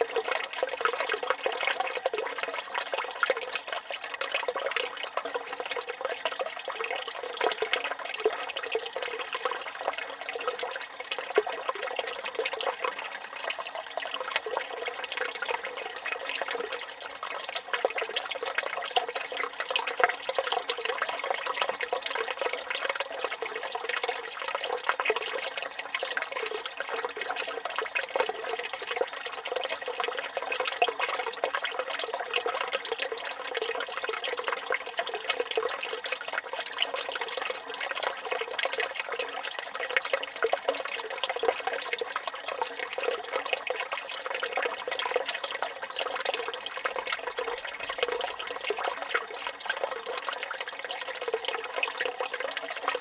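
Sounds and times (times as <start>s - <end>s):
fountain water splashing into basin: 0.0s - 53.0s.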